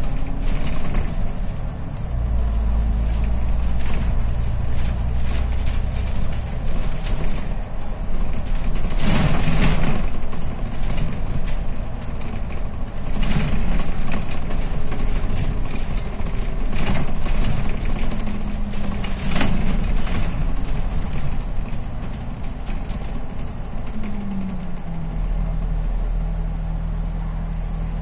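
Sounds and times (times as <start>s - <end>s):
bus engine running: 0.0s - 28.0s
road noise: 0.0s - 28.0s.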